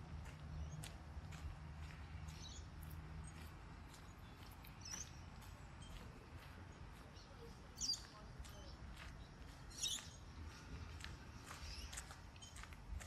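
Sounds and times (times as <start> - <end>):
faint footsteps: 0.0 - 13.0.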